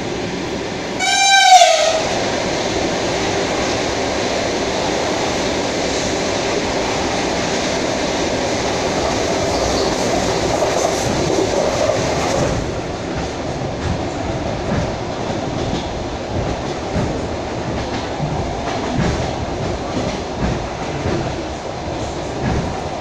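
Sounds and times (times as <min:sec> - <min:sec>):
train wheels and running gear: 0:00.0 - 0:23.0.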